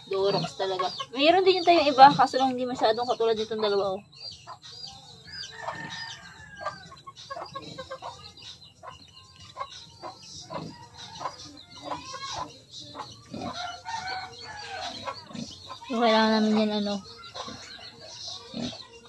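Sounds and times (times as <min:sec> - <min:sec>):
birds chirping and clucking: 0:00.0 - 0:19.0.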